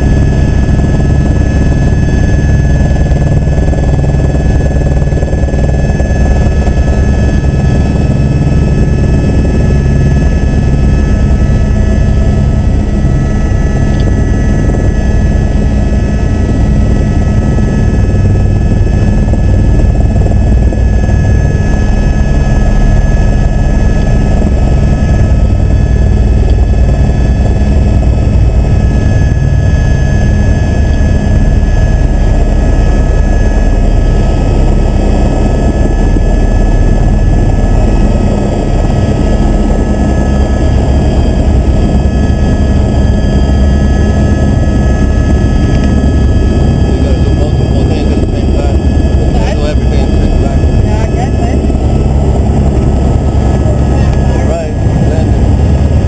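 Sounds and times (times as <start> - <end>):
helicopter engine and rotor drone: 0.0 - 56.0
thin steady whine: 0.0 - 56.0.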